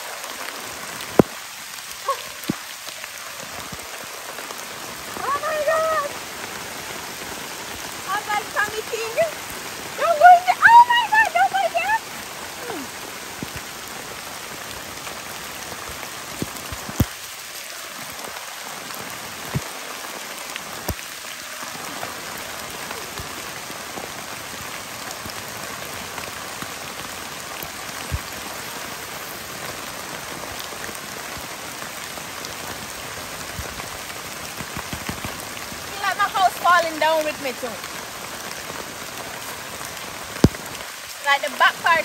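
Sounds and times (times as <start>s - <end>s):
rain on a tent: 0.0s - 42.0s.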